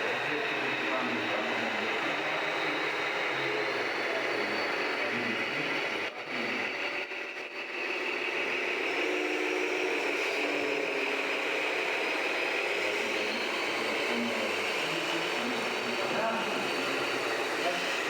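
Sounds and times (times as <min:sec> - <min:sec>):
rc trucks engine-like sound: 0:00.0 - 0:18.0.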